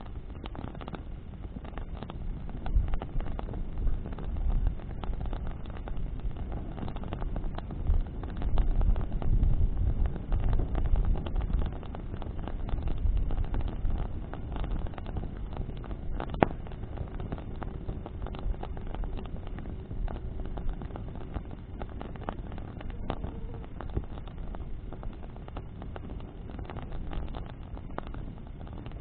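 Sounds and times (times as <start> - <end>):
bonfire wood crackling: 0.0 - 29.0
wind rumble on microphone: 0.0 - 29.0.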